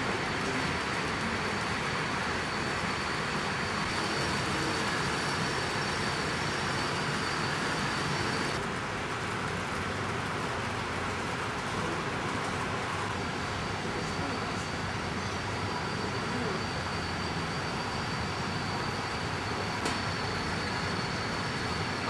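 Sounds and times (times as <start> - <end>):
faint high whine: 0.0 - 8.6, 11.8 - 22.0
model trains rolling on track: 0.0 - 22.0.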